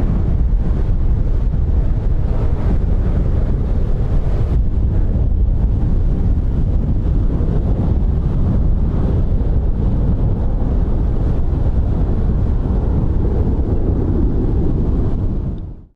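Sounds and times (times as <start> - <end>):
jet engine rumble: 0.0 - 15.9
wind buffeting microphone: 0.0 - 15.9.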